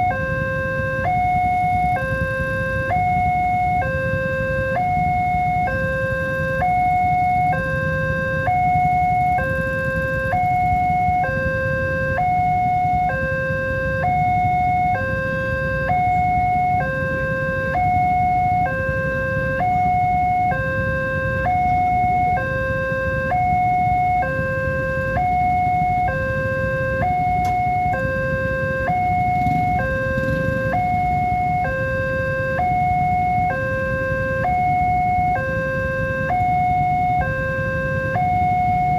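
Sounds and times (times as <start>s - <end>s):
two-tone crossing alarm: 0.0s - 38.9s.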